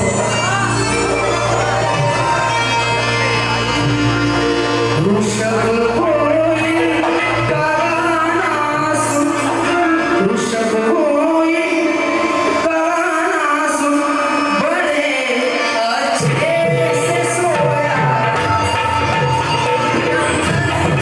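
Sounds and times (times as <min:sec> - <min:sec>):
instrumental accompaniment: 0:00.0 - 0:21.0
person singing ornamented notes: 0:00.0 - 0:21.0.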